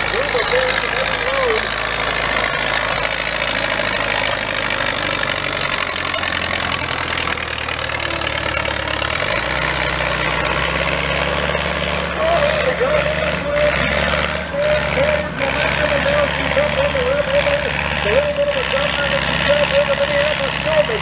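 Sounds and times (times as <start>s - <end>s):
tractor engine under load: 0.0s - 21.0s.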